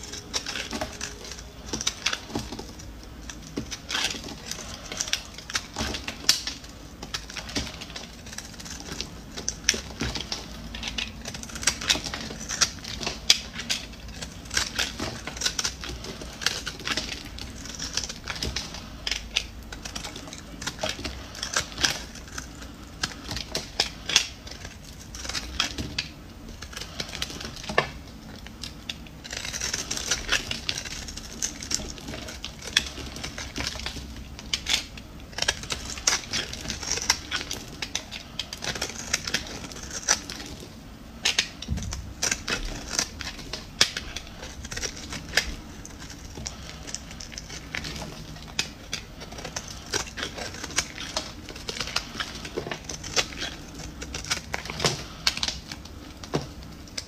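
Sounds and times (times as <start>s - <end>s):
bar soap crunching under blade: 0.0s - 57.0s
blade scraping soap: 0.0s - 57.0s.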